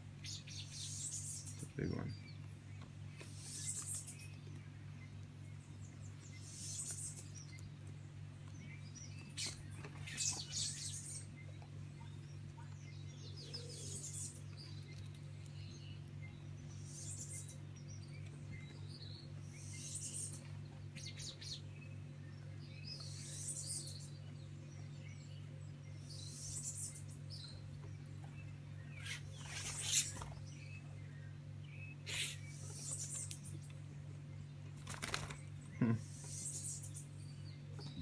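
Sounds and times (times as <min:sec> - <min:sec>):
small birds chirping: 0:00.0 - 0:38.0
steady low hum: 0:00.0 - 0:38.0.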